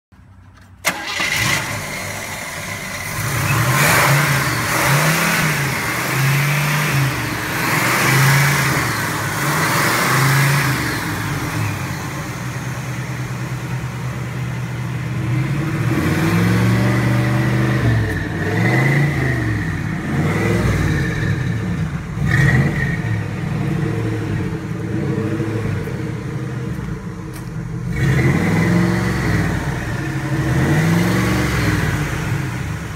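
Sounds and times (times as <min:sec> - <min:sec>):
car engine revving: 0:00.8 - 0:32.9.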